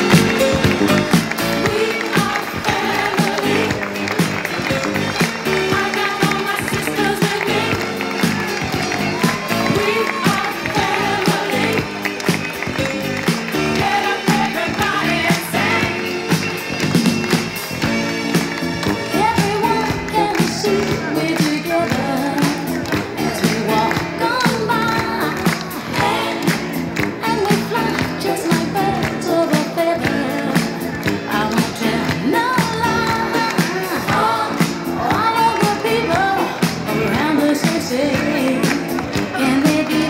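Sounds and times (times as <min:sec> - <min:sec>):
pop song with singer and band: 0:01.2 - 0:04.2, 0:05.3 - 0:08.4, 0:09.2 - 0:11.9, 0:13.5 - 0:16.5, 0:19.0 - 0:40.0.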